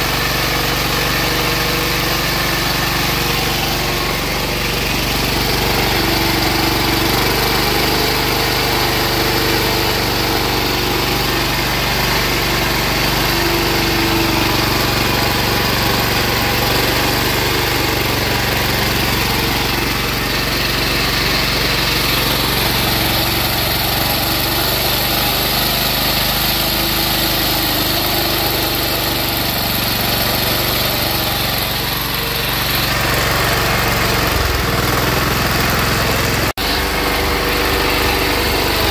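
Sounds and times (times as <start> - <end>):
small diesel engine running: 0.0 - 38.9.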